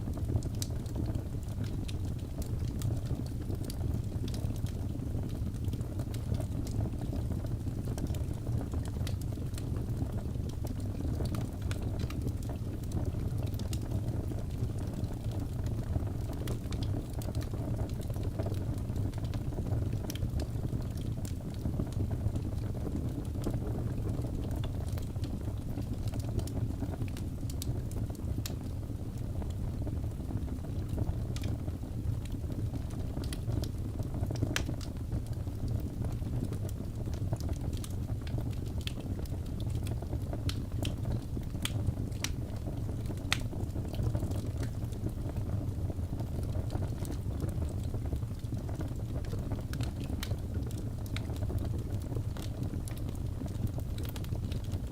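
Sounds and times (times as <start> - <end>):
rumble of flames: 0.0 - 54.9
logs crackling and popping: 0.1 - 54.9.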